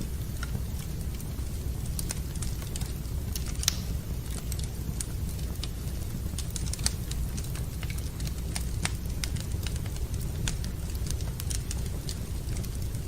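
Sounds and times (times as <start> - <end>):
fire popping: 0.0 - 13.0
low fire rumble: 0.0 - 13.0
wood fire crackling: 0.0 - 13.0.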